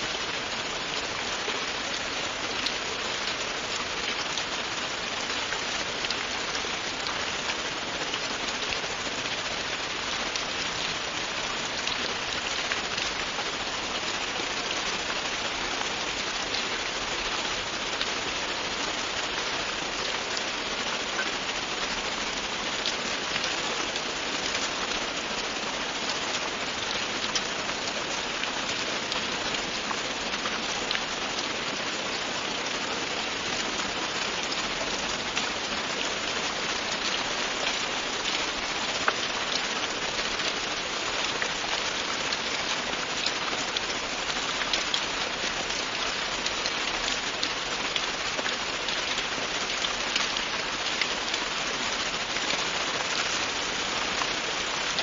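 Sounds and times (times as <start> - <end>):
raindrops ticking on a surface: 0.0 - 55.0
steady rain falling: 0.0 - 55.0.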